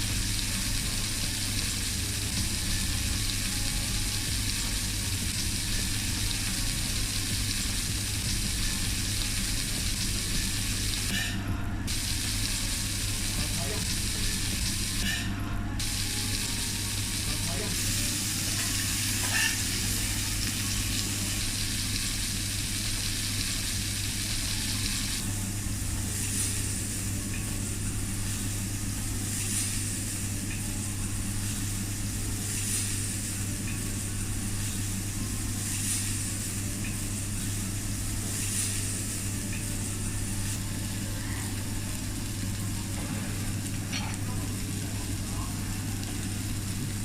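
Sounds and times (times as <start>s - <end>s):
food sizzling on a griddle: 0.0s - 47.0s
steady low hum: 0.0s - 47.0s.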